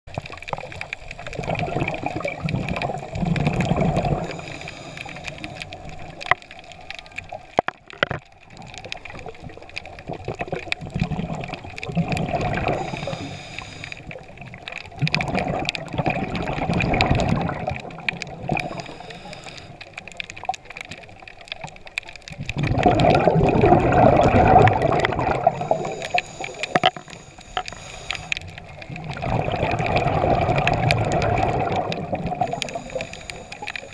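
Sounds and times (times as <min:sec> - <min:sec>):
exhaled bubbles gurgling underwater: 0:00.1 - 0:33.9.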